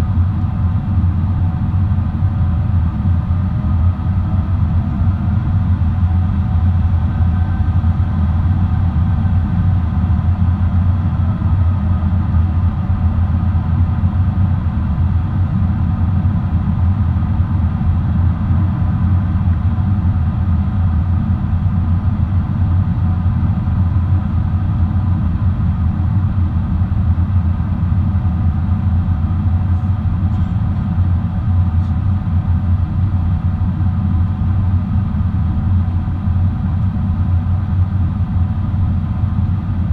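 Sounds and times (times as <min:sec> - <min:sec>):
faint engine whine: 0:00.0 - 0:39.9
jet engine drone in cabin: 0:00.0 - 0:39.9.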